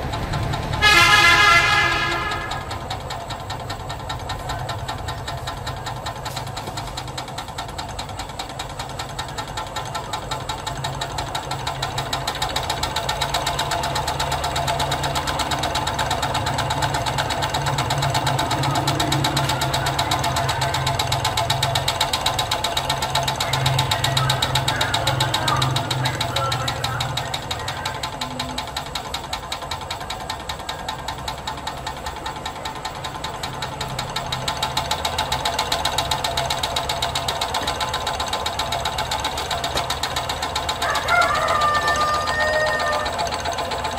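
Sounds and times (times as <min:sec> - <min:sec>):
steam engine knocks and chuffs: 0:00.0 - 0:43.9.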